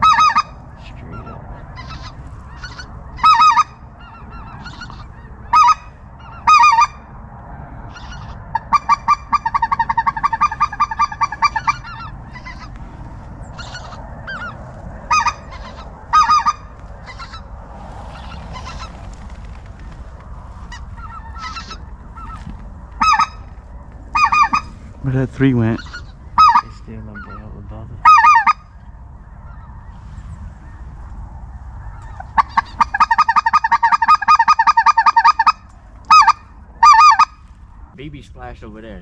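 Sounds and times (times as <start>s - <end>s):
goose honking: 0.0s - 7.1s, 7.8s - 17.5s, 18.1s - 19.5s, 20.6s - 31.2s, 31.8s - 37.6s
faint goose calls: 0.0s - 7.2s, 7.8s - 37.7s.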